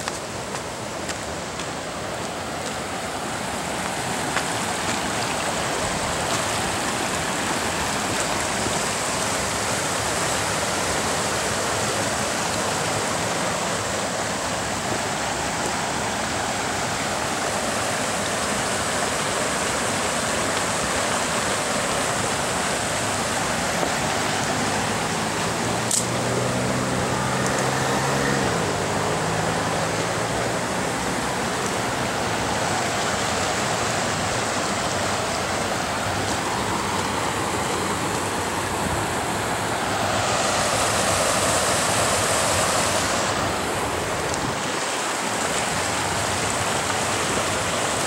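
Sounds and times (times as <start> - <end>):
stream water rushing: 0.0 - 48.0.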